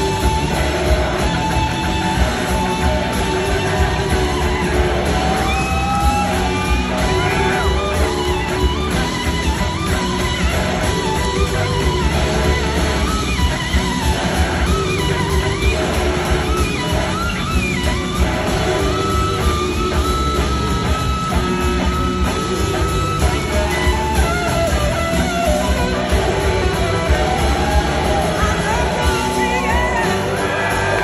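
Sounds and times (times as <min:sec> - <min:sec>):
drums and bass: 0:00.0 - 0:31.0
electric slide guitar solo: 0:00.0 - 0:31.0.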